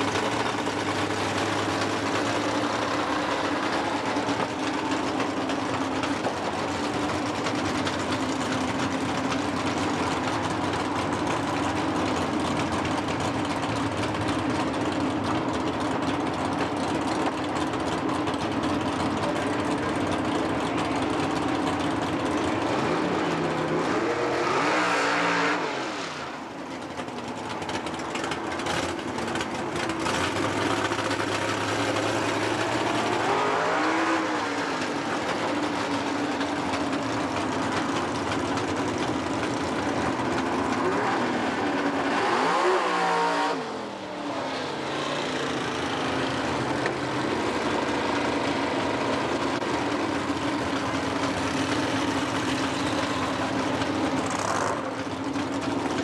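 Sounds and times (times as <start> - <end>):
race engine idling and revving: 0.0 - 56.0.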